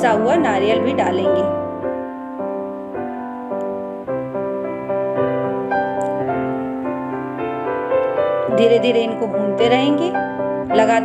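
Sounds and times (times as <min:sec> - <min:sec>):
piano playing soft chords: 0:00.0 - 0:11.0.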